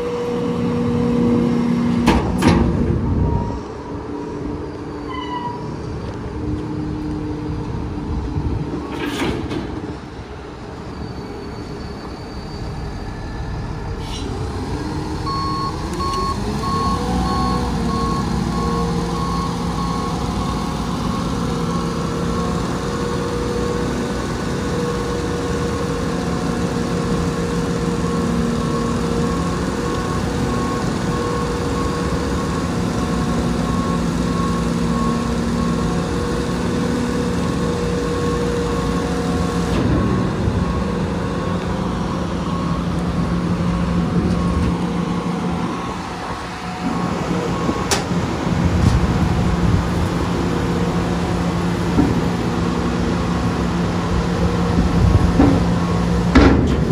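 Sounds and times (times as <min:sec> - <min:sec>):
diesel engine running and revving: 0:00.0 - 0:04.9, 0:12.4 - 0:56.9.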